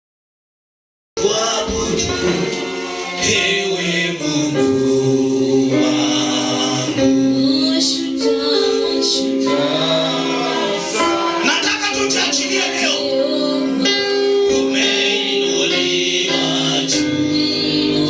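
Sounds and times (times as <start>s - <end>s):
choir singing gospel: 1.2s - 18.0s.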